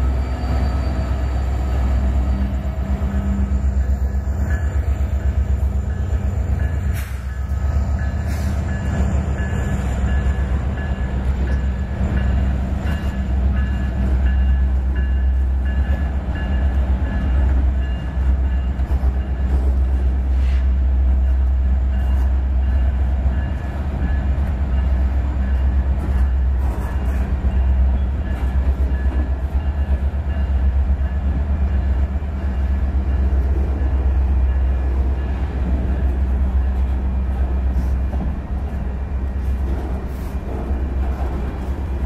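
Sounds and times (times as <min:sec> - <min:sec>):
freight train wheels rumbling: 0:00.0 - 0:42.0
train car clanks: 0:03.0 - 0:42.0.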